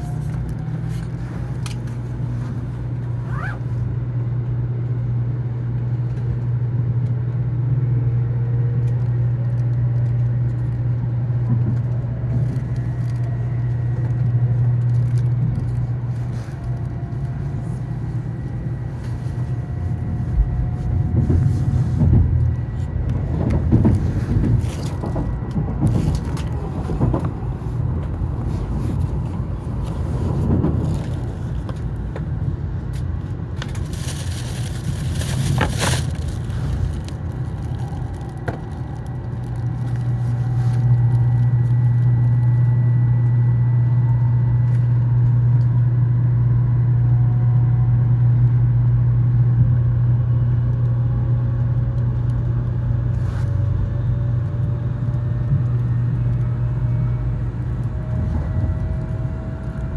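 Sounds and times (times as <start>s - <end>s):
train interior rumble: 0.0s - 59.9s
low drone: 11.8s - 59.9s.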